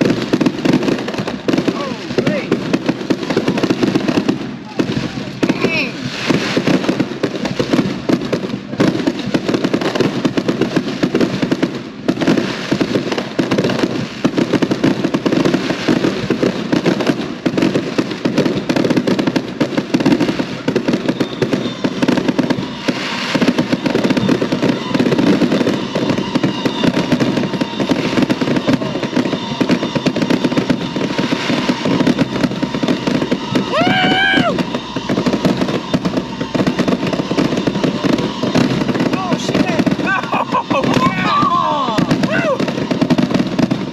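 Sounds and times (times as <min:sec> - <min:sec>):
fireworks popping and banging: 0:00.0 - 0:43.9.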